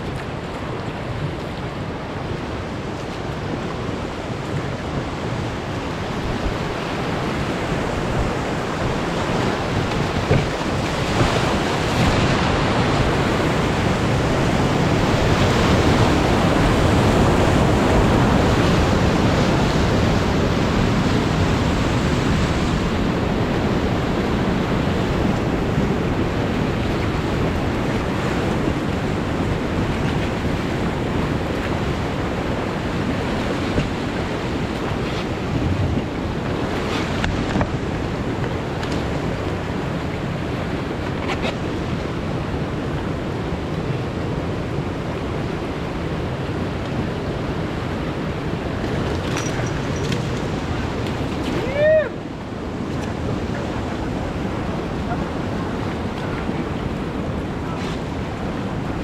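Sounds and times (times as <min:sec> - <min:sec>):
whitewater rushing and splashing: 0:00.0 - 0:59.0.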